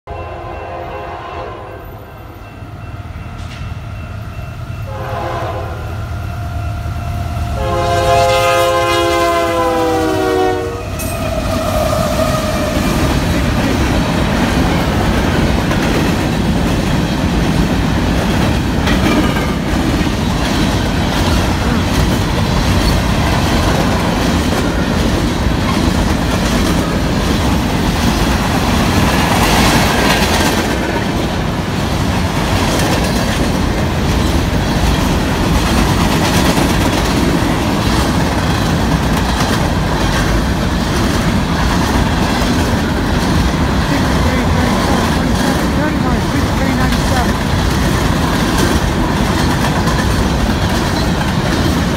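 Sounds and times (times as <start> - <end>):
train wheels rumbling on rails: 0.2 - 51.9.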